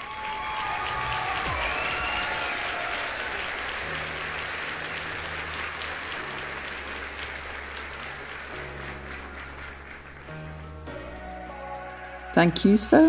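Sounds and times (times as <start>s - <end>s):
crowd applause: 0.0s - 11.4s.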